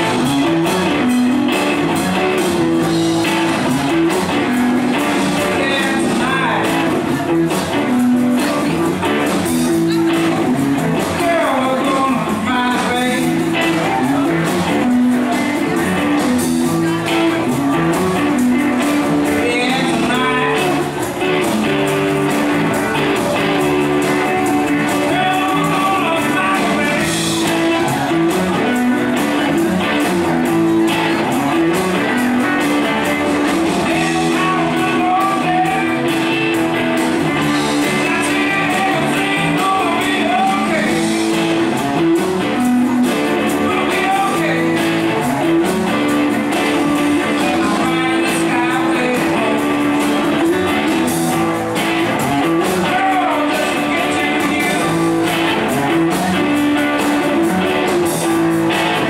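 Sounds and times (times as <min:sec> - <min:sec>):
bass guitar: 0:00.0 - 0:59.0
drums: 0:00.0 - 0:59.0
electric guitars: 0:00.0 - 0:59.0
organ chords: 0:00.0 - 0:59.0.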